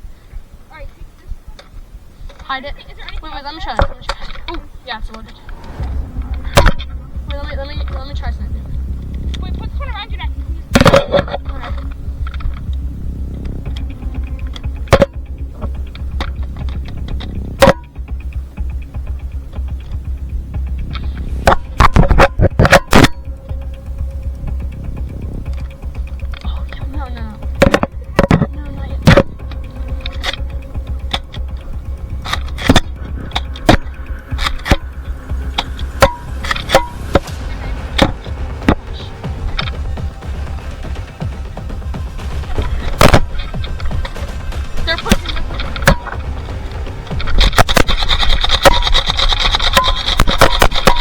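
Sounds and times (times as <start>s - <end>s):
background music with steady beat: 0.0s - 51.0s
steady low rumble: 0.0s - 51.0s
sharp clicks and knocks: 1.5s - 51.0s.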